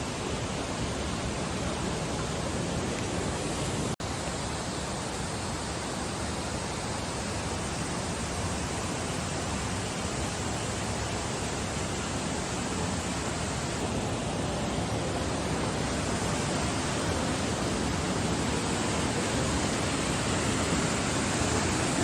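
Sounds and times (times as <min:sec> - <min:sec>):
rushing stream water: 0:00.0 - 0:22.0.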